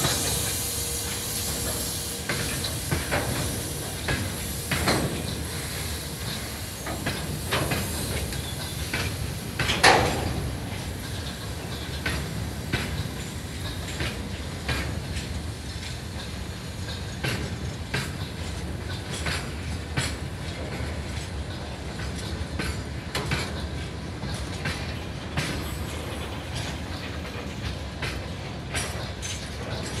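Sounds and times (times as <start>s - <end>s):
train low rumble: 0.0s - 30.0s
train wheels knocking over rail joints: 0.0s - 30.0s.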